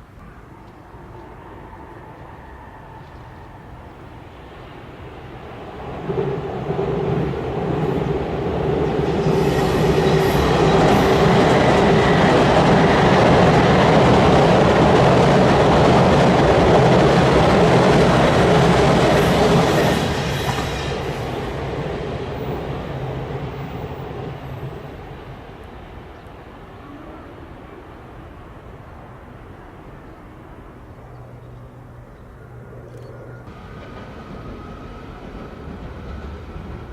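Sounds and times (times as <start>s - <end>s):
train wheels rumbling on track: 0.0s - 29.6s, 31.2s - 36.9s.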